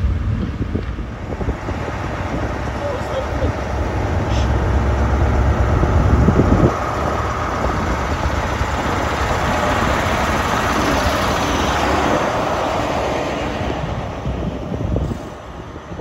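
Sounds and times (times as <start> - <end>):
diesel locomotive passing: 0.0 - 16.0.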